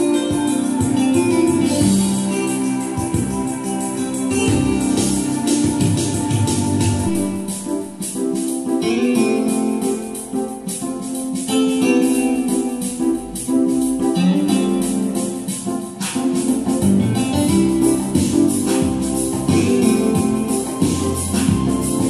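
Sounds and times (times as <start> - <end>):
electronic keyboard chords and melody: 0.0 - 22.0
light percussion beat: 0.0 - 22.0.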